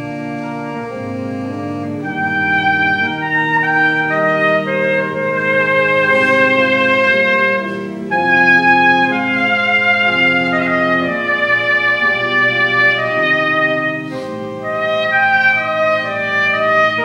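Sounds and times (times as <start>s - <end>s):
sustained organ chords: 0.0s - 17.0s
piccolo trumpet melody: 0.8s - 17.0s.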